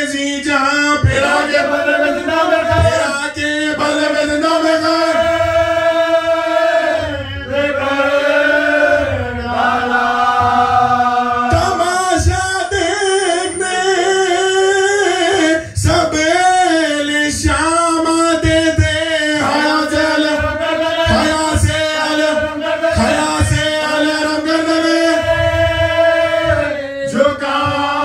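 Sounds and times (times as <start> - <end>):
man chanting into a microphone: 0.0 - 5.9, 10.8 - 28.0.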